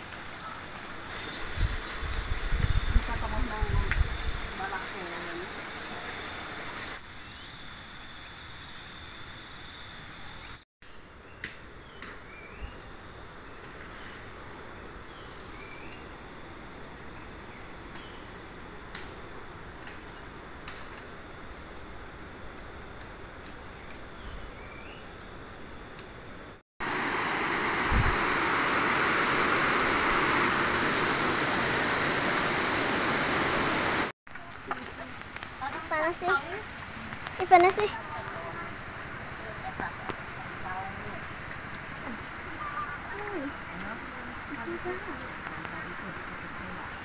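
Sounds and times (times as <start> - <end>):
insects chorus: 0.0 - 47.0.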